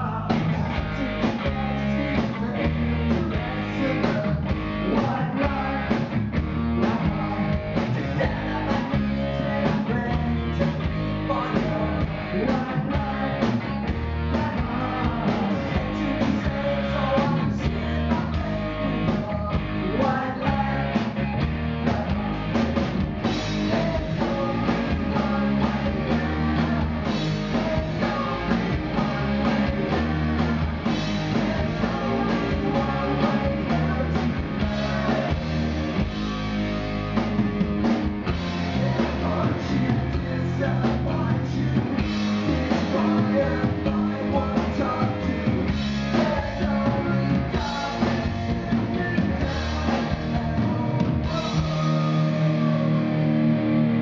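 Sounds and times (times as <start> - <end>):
man singing: 0.0 - 36.1, 38.3 - 53.3
rock band playing live: 0.0 - 54.0.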